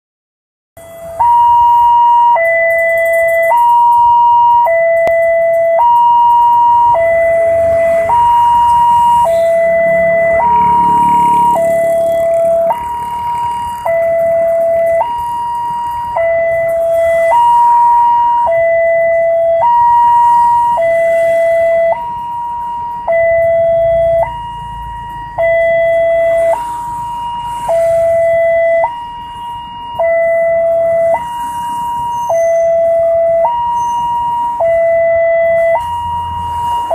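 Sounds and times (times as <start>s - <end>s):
two-tone crossing alarm: 0.8s - 36.9s.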